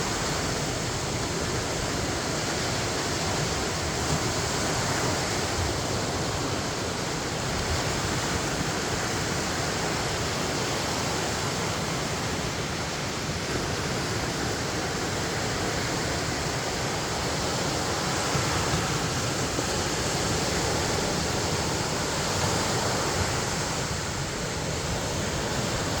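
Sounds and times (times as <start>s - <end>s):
rain: 0.0s - 26.0s
surf rushing: 0.0s - 26.0s
wind: 0.0s - 26.0s.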